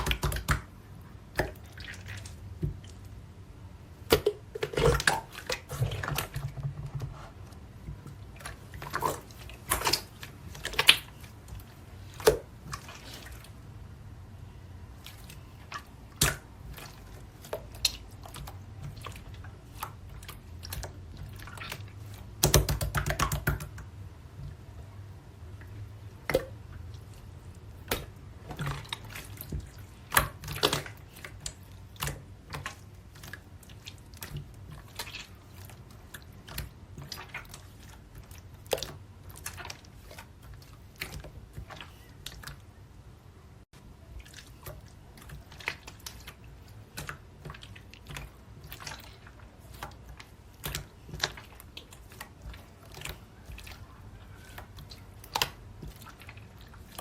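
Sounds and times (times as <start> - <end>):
slime squished by hand: 3.9 - 7.4, 8.2 - 13.6, 14.9 - 24.0, 26.2 - 42.8, 44.0 - 57.0.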